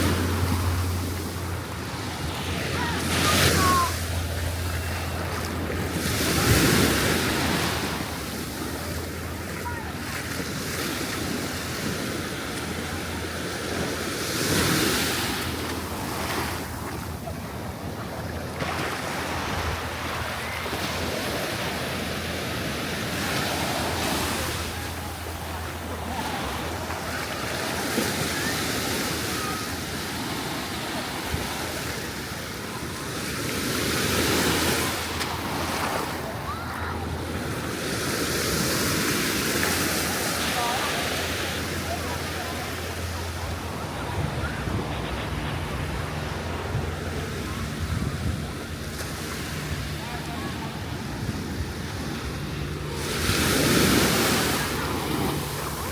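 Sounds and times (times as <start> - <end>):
ocean surf washing onto beach: 0.0 - 55.9.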